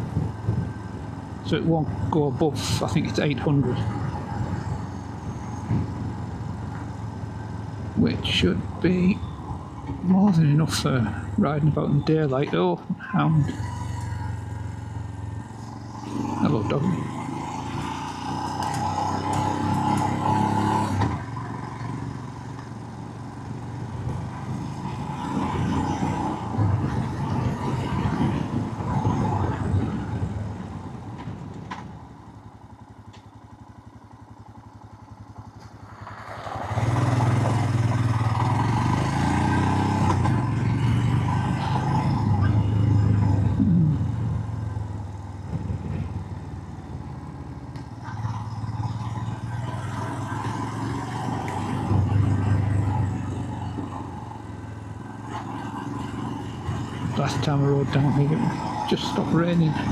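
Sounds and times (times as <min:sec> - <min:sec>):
motorcycle engine: 0:00.0 - 0:59.9
road noise: 0:00.0 - 0:59.9.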